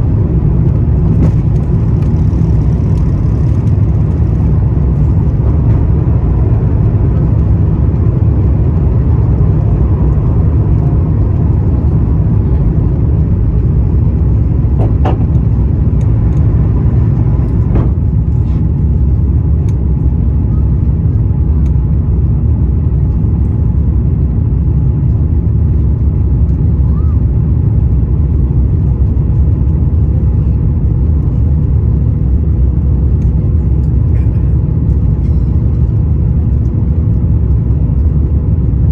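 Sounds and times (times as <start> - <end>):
airflow over fuselage: 0.0 - 38.9
jet engine rumble: 0.0 - 38.9.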